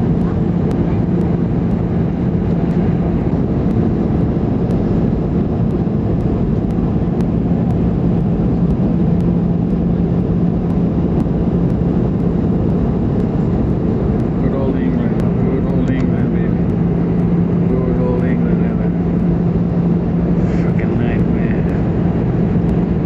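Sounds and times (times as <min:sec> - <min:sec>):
aircraft cabin engine roar: 0:00.0 - 0:23.0
low hum: 0:00.0 - 0:23.0.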